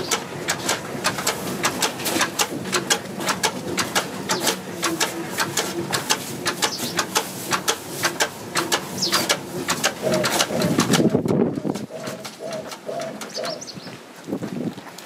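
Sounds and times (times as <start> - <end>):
feeding machine clicking and clattering: 0.0 - 13.6
machine low rumble: 0.0 - 13.9.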